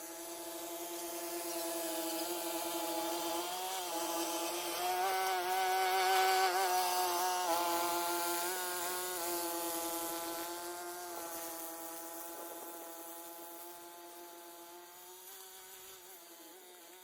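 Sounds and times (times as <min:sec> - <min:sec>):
small engine buzzing drone: 0:00.0 - 0:17.0.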